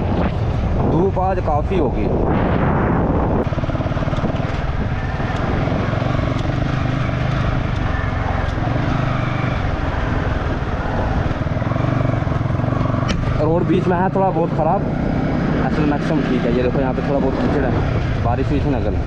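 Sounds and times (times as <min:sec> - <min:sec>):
motorcycle engine running: 0:02.0 - 0:19.0.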